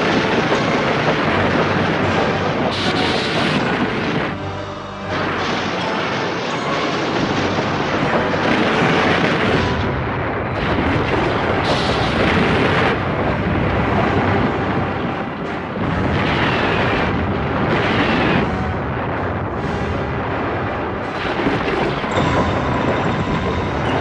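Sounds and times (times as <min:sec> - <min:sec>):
explosions and rumbling: 0:00.0 - 0:24.0.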